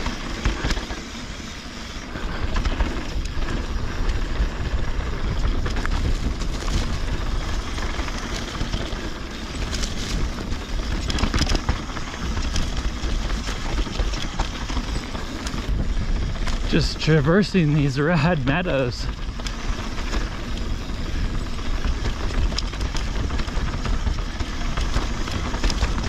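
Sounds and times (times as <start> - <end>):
bike clicks and rattles: 0.0 - 26.0
tyres rolling on dirt trail: 0.0 - 26.0
wind rushing over microphone: 2.0 - 26.0.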